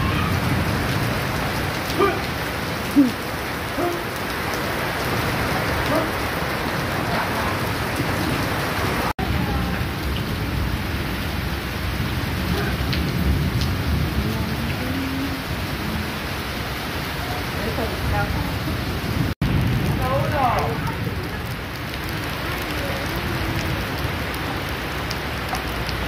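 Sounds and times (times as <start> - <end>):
heavy rain pouring on pavement: 0.0 - 26.0.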